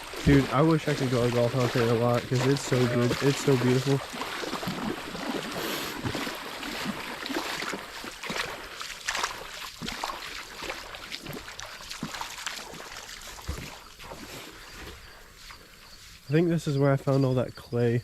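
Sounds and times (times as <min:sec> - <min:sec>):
footsteps splashing through water: 0:00.0 - 0:16.3.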